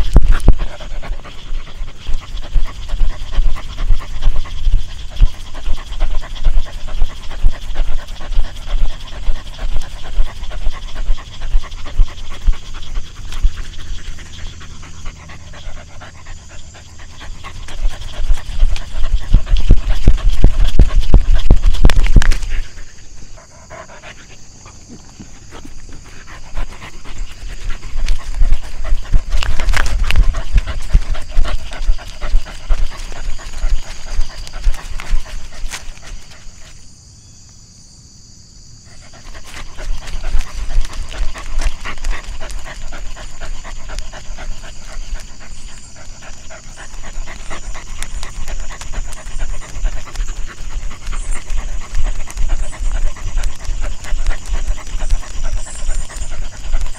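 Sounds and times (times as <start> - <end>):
dog panting: 0.0 - 36.8, 38.8 - 56.9.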